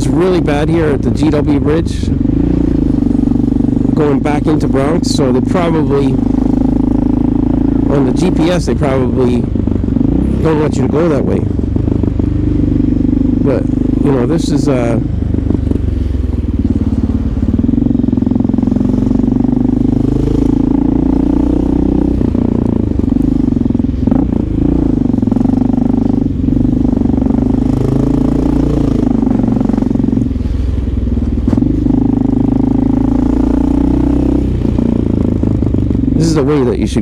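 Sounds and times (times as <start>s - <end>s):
motorcycle engine cruising: 0.0s - 37.0s.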